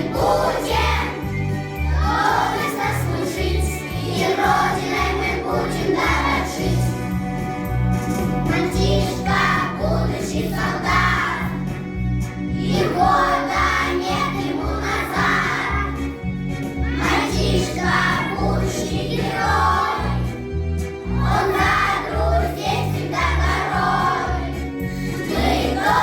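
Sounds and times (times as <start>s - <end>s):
children's choir singing: 0.0s - 7.1s, 8.4s - 11.7s, 12.6s - 16.2s, 16.8s - 20.4s, 21.0s - 26.0s
instrumental accompaniment with bass: 0.0s - 26.0s.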